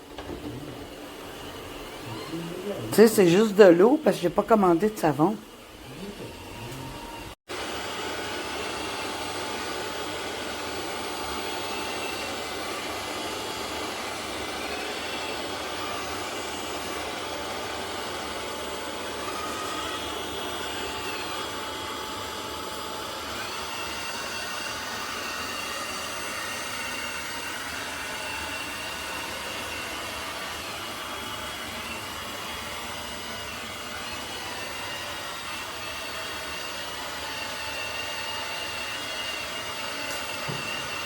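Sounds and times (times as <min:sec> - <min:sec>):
robot vacuum motor and fan: 0:00.0 - 0:41.0.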